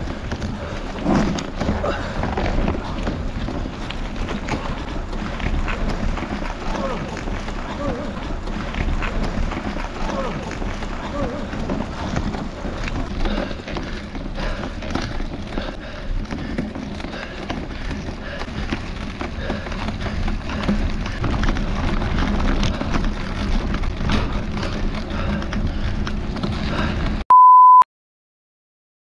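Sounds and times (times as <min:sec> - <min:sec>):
bike rattling over bumps: 0:00.0 - 0:27.2
bike tyres crunching on gravel: 0:00.0 - 0:27.2.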